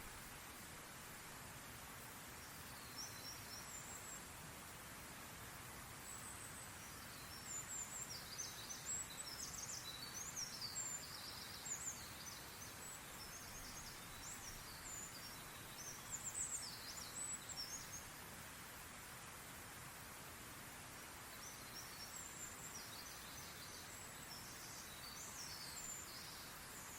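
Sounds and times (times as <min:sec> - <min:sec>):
songbirds chirping and twittering: 0:00.0 - 0:26.9
steady outdoor hiss: 0:00.0 - 0:26.9.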